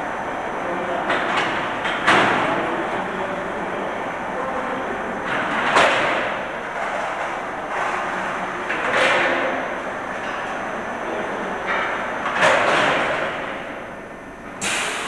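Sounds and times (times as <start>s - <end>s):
machine running noise: 0.0s - 15.0s.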